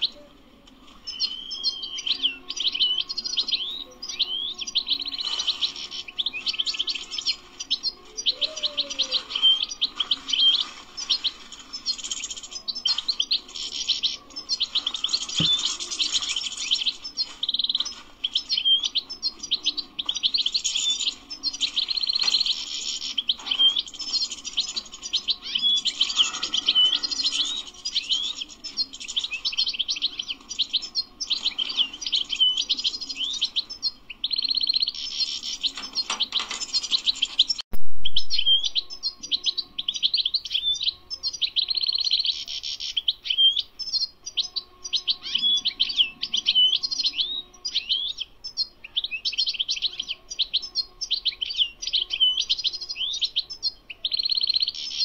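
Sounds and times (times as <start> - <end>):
goldfinch singing: 1.0 - 55.0.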